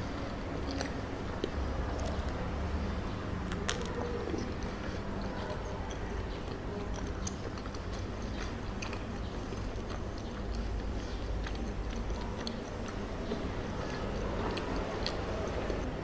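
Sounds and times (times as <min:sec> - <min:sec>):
wet sticky chewing: 0:00.5 - 0:02.5, 0:03.4 - 0:16.0.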